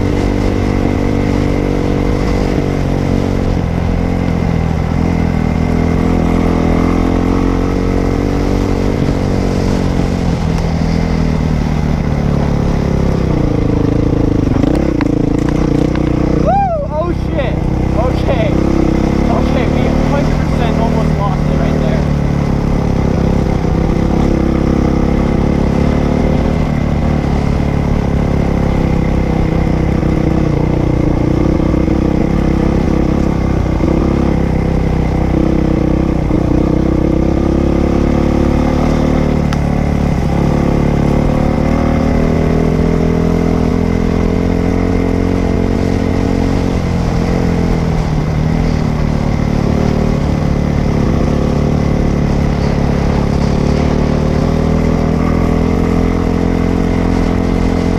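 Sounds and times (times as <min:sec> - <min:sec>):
dirt bike engine running: 0:00.0 - 0:57.9.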